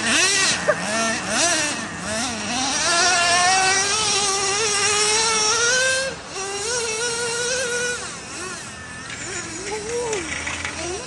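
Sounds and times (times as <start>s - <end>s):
small engine revving high: 0.0s - 11.0s.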